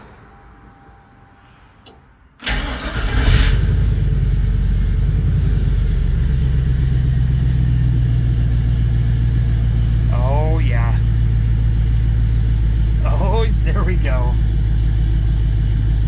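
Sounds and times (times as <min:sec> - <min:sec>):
pickup engine starting and idling: 0:02.4 - 0:16.0.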